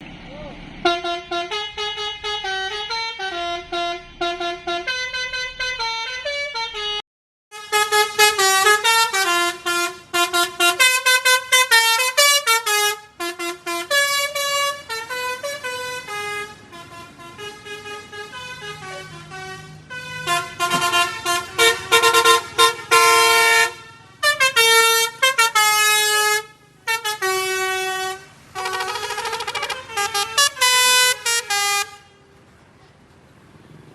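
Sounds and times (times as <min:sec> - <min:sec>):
multi-tone bus horn melodies: 0:00.8 - 0:32.4.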